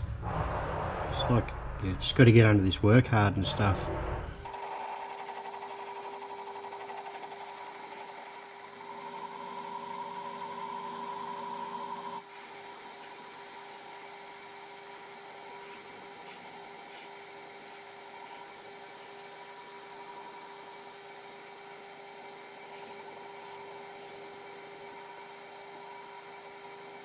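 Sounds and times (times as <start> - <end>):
lathe tool cutting metal: 4.4 - 27.0
metal lathe whining: 4.4 - 27.0.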